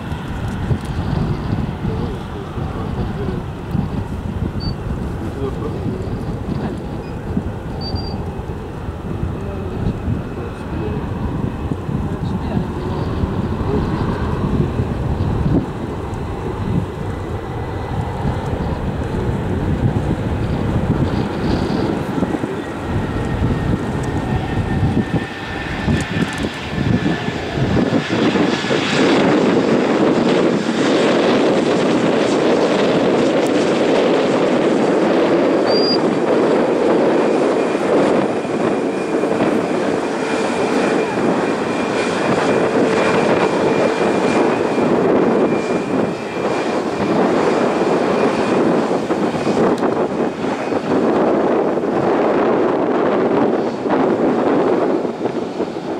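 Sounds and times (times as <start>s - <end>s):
jet engines at high power: 0.0s - 55.9s.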